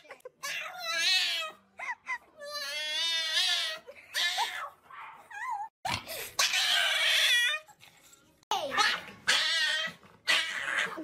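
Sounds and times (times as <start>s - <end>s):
dog wailing and yelping: 0.3s - 5.7s, 6.4s - 7.7s, 8.8s - 11.0s.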